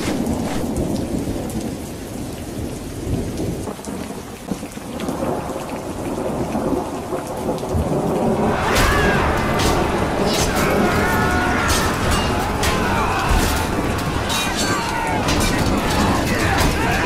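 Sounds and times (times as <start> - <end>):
thunder rumbling: 0.0 - 3.8, 5.1 - 17.0
steady rain: 0.0 - 17.0.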